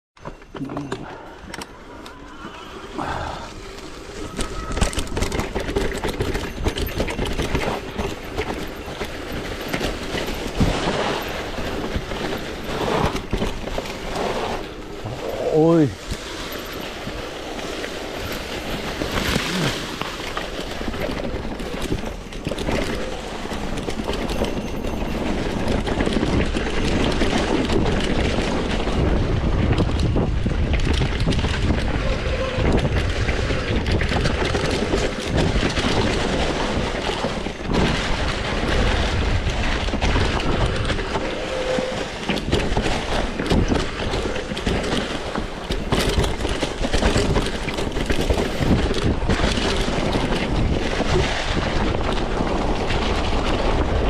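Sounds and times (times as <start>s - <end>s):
bike rattling over stones: 0.2s - 54.0s.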